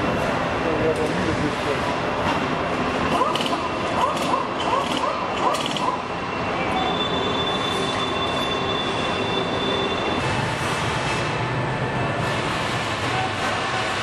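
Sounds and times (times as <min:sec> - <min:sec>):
factory machinery humming: 0:00.0 - 0:14.0.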